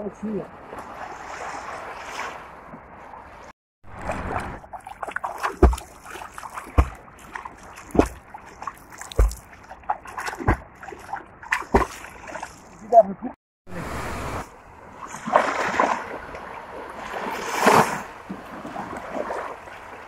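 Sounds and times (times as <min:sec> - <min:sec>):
sea water sloshing: 0:00.5 - 0:12.9, 0:14.6 - 0:20.0
low water thuds: 0:00.6 - 0:12.9, 0:15.0 - 0:20.0
swimming strokes splashing: 0:00.8 - 0:12.9, 0:15.0 - 0:20.0.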